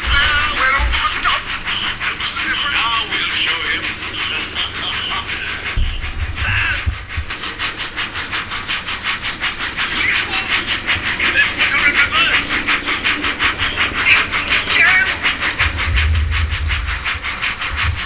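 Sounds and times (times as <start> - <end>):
model steam locomotive chuffing: 0.0 - 18.0.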